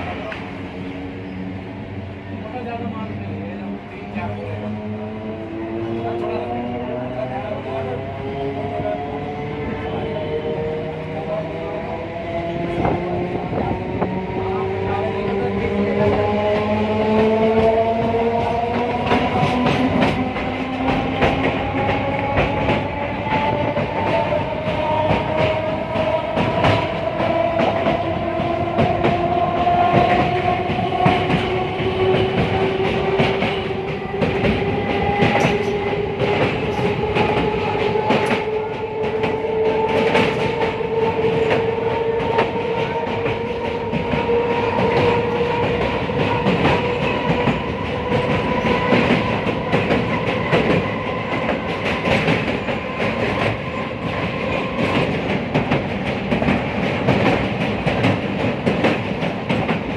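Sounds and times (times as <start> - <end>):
train rumble: 0.0 - 59.9
train whine: 0.0 - 59.9.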